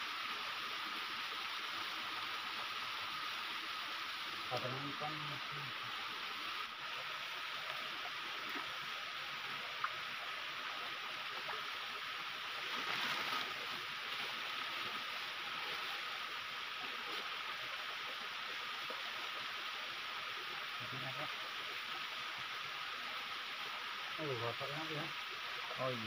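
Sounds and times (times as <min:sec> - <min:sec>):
waterfall and stream rushing: 0:00.0 - 0:26.0.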